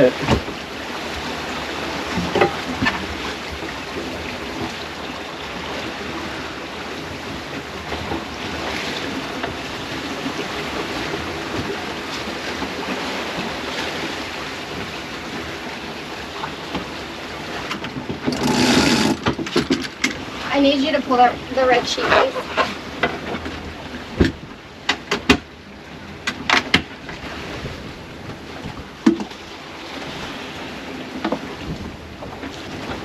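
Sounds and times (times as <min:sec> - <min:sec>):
water splashing along boat hull: 0:00.0 - 0:33.0
wind: 0:00.0 - 0:33.0.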